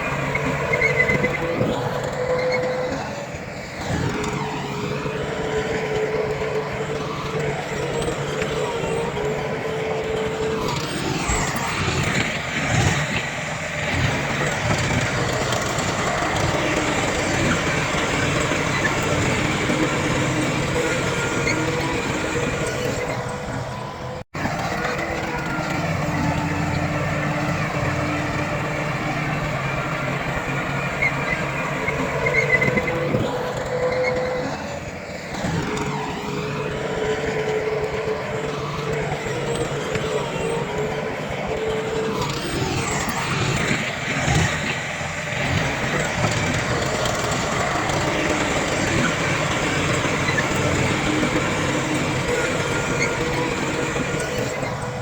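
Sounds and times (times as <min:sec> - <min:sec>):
heavy diesel machinery engines: 0:00.0 - 0:55.0.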